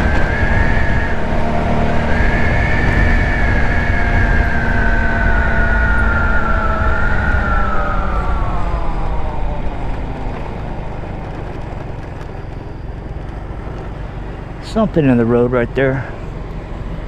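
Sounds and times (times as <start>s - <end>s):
scooter engine whine slowing: 0.0s - 17.0s
wind rumble on microphone: 0.0s - 17.0s.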